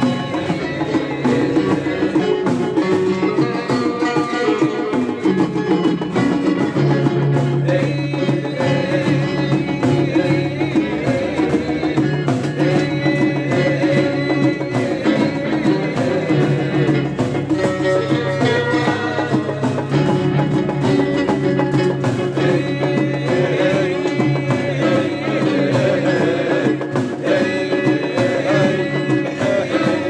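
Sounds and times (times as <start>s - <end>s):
percussion: 0.0s - 30.0s.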